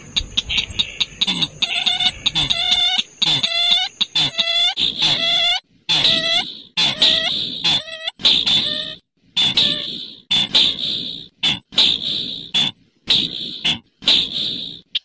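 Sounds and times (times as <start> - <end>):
short hoarse bird calls: 0.4 - 15.0.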